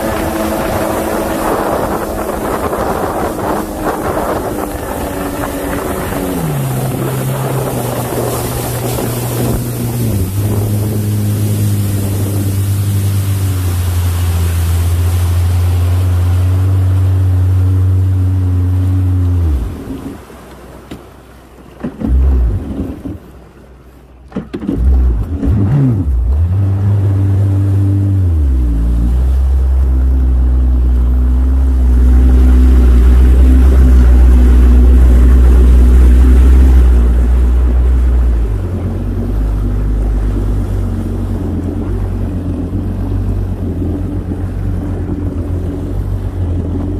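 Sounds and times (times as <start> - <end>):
jet ski engine droning: 0.0 - 46.9.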